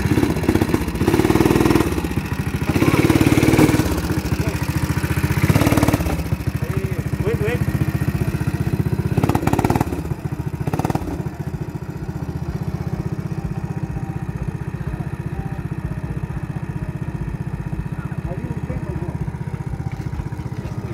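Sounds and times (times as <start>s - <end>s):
go-kart engine bursts: 0.0s - 20.9s
go-kart engine putter: 0.0s - 20.9s.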